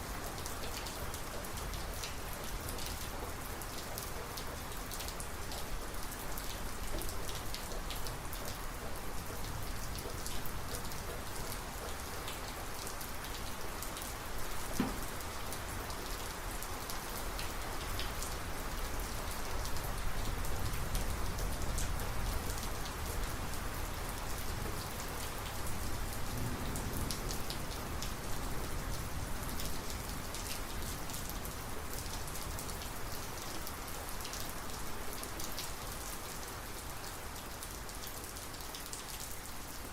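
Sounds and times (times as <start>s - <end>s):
heavy rain falling: 0.1s - 39.9s
raindrops ticking close by: 0.2s - 39.9s.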